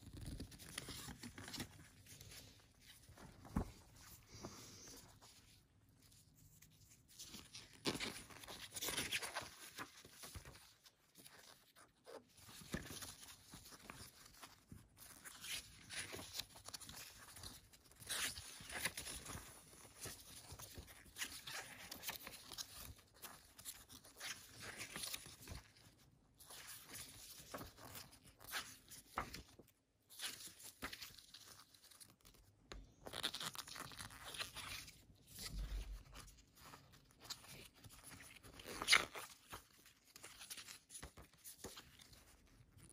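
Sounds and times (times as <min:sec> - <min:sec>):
glossy paper pages rustling: 0:00.0 - 0:42.9.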